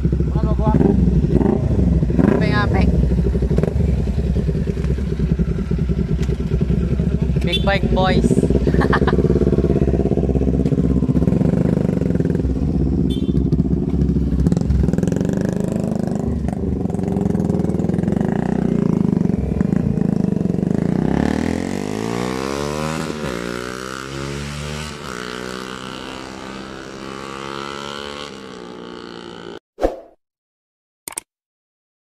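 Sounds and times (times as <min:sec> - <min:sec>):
motorcycle accelerating away: 0:00.0 - 0:29.6
motorcycle engines running: 0:00.0 - 0:29.6.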